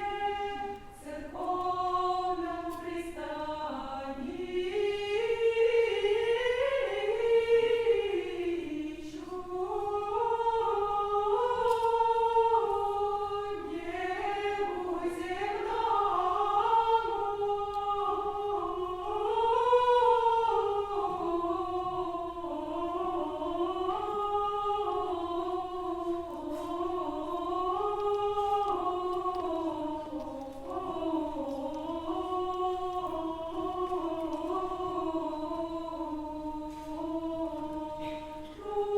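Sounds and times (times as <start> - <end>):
choir singing in unison: 0.0 - 38.9.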